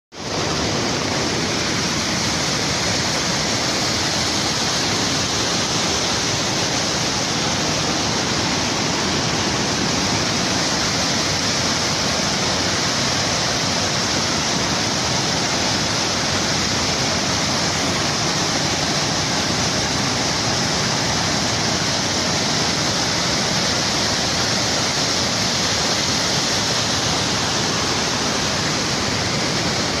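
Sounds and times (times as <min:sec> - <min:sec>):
mountain torrent rushing: 0:00.2 - 0:30.0.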